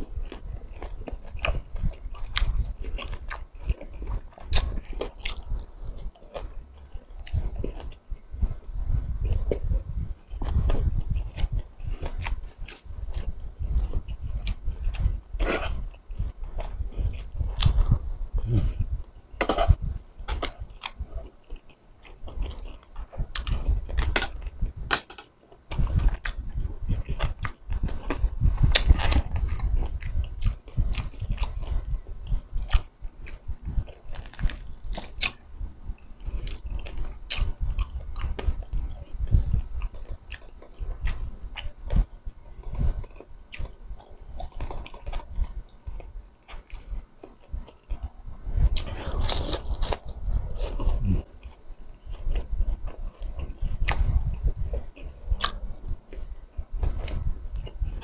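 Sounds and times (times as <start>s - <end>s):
person chewing crispy food: 0.0s - 58.0s.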